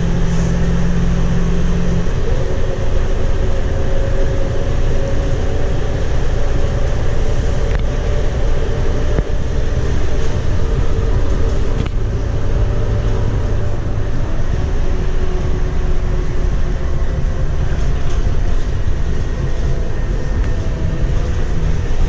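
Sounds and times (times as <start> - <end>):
bus engine and road rumble: 0.0 - 22.0
steady whine: 0.0 - 22.0.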